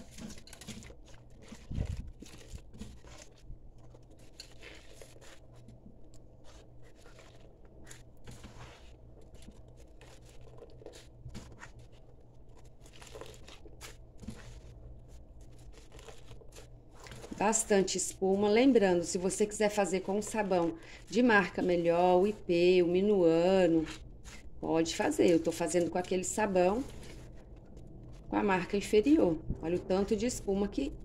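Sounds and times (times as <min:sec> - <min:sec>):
sponge scrubbing in soapy water: 0:00.0 - 0:31.0.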